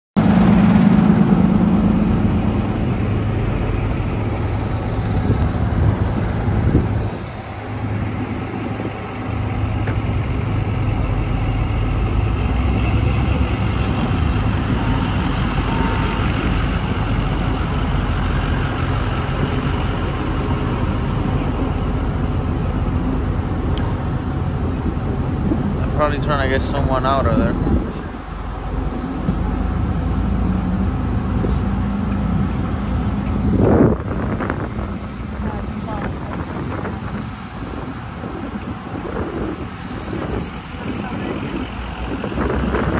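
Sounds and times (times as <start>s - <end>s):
truck engine idling: 0.2s - 42.9s.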